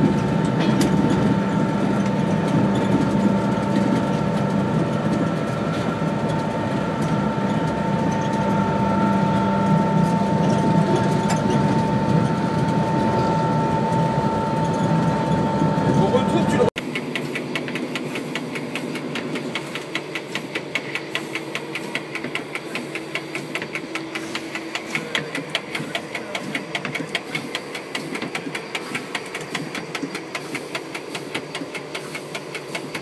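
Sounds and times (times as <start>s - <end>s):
diesel locomotive engine clattering: 0.0s - 33.0s.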